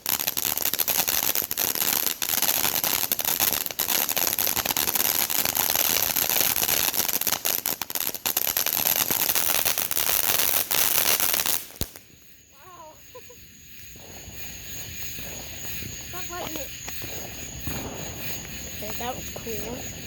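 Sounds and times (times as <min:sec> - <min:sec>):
firework crackling: 0:00.0 - 0:20.0.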